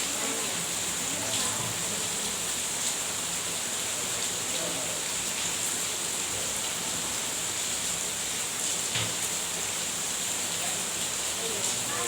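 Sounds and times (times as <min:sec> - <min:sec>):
heavy rain hissing: 0:00.0 - 0:08.6, 0:09.2 - 0:12.0.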